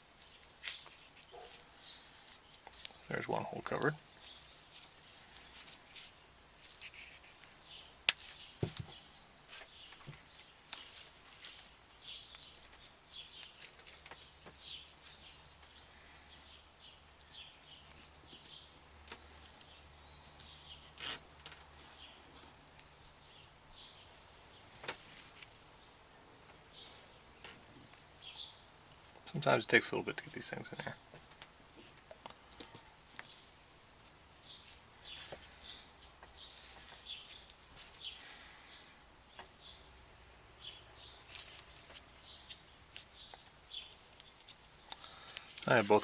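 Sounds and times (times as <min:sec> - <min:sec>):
tape crinkling and rustling: 0:00.0 - 0:25.9, 0:27.4 - 0:29.5, 0:30.2 - 0:38.7, 0:41.2 - 0:46.0.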